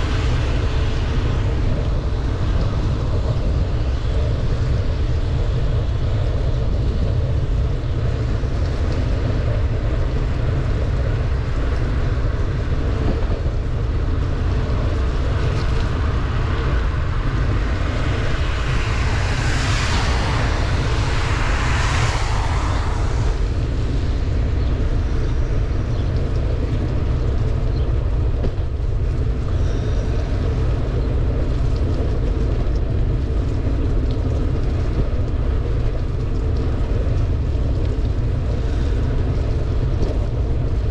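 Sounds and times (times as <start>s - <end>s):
rain hissing on wet road: 0.0s - 40.9s
wind buffeting microphone: 0.0s - 40.9s
vehicle passing on wet road: 7.9s - 40.9s.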